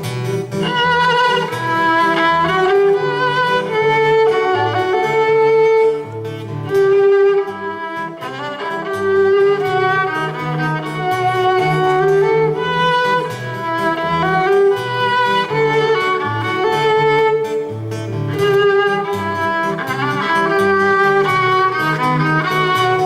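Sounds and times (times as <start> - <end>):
string accompaniment: 0.0 - 23.0
violin melody: 0.0 - 23.0.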